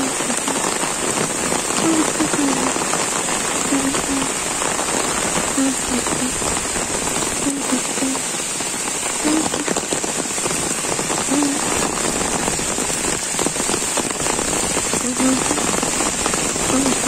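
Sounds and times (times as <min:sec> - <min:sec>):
heavy rain on leaves and road: 0:00.0 - 0:17.0.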